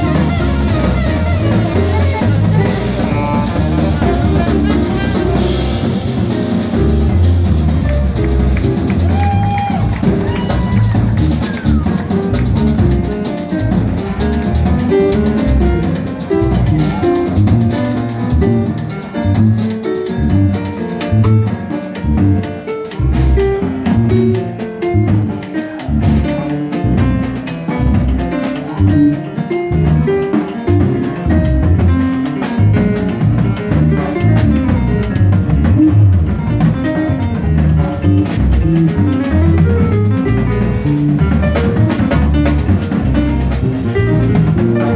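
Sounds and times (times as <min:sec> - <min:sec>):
drums: 0:00.0 - 0:44.9
jazz band playing: 0:00.0 - 0:44.9
prominent bass line: 0:00.0 - 0:44.9.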